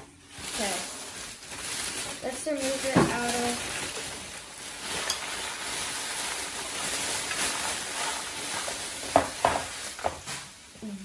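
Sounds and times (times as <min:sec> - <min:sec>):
plastic bag rustling and crinkling: 0:00.0 - 0:11.0.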